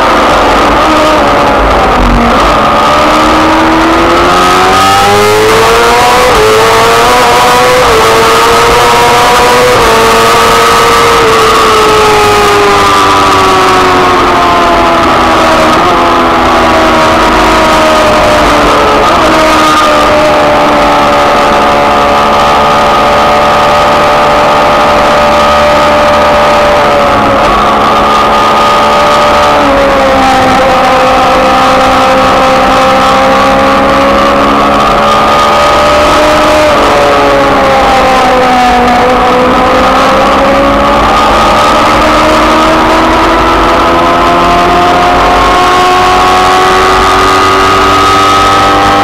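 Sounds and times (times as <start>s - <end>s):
engine at high revs: 0.0s - 49.0s
road noise: 0.0s - 49.0s
rushing wind: 0.0s - 49.0s.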